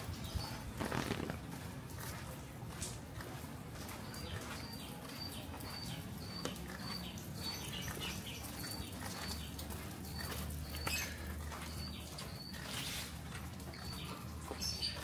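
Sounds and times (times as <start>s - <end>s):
footsteps on paved path: 0.0s - 15.0s.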